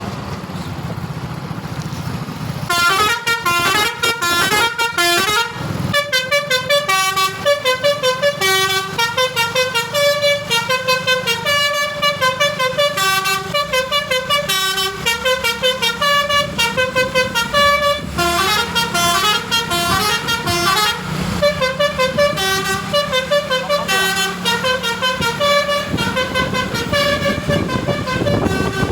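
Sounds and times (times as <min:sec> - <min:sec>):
bus engine running: 0:00.0 - 0:28.9
musical bus horn tune: 0:02.7 - 0:28.9.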